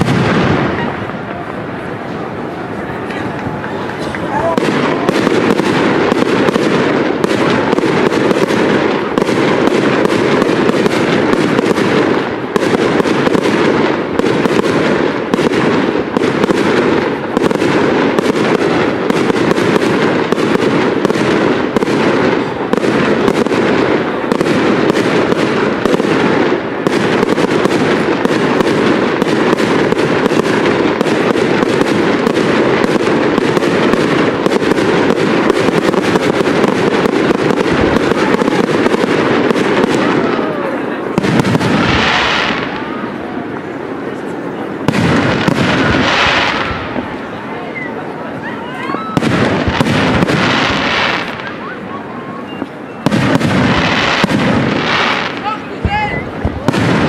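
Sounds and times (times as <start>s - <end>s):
fireworks bangs and pops: 0.0s - 57.0s.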